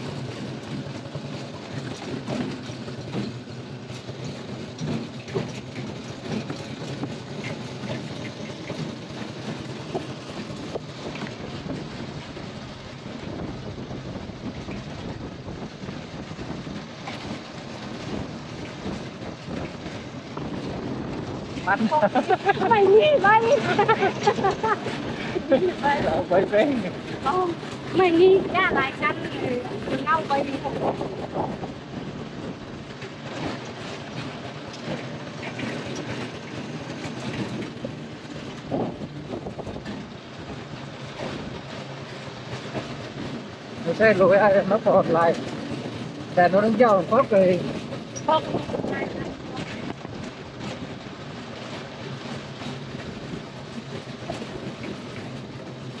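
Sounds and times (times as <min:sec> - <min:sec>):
small motorbike riding: 0:00.0 - 0:56.0
wind buffeting microphone: 0:00.0 - 0:56.0.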